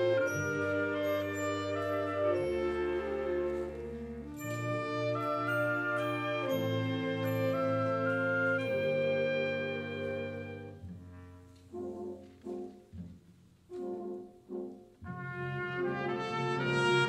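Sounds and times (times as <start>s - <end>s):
french horns playing phrases: 0.0s - 13.0s, 13.7s - 17.0s
wind band playing: 0.0s - 17.0s.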